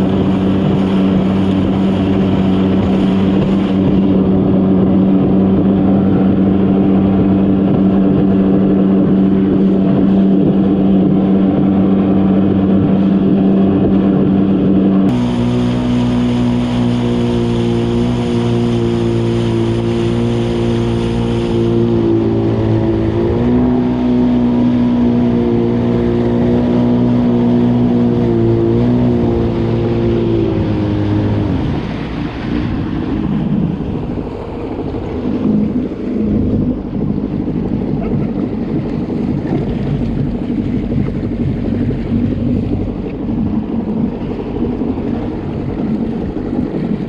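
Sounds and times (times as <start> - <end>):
jet ski engine running: 0.0 - 47.0.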